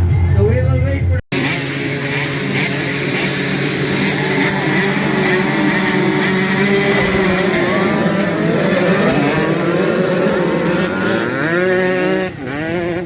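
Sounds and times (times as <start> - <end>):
motocross bike engine revving: 1.3 - 13.0.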